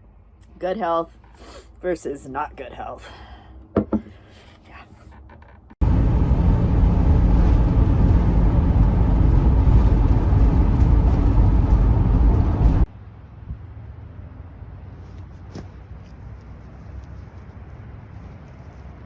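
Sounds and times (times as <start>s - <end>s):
motorhome engine and road rumble: 0.0s - 19.0s.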